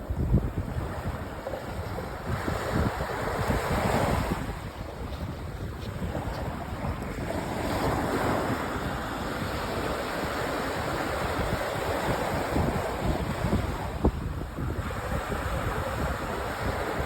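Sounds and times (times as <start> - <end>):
waves breaking on sand: 0.0 - 17.0
wind buffeting microphone: 0.0 - 17.0.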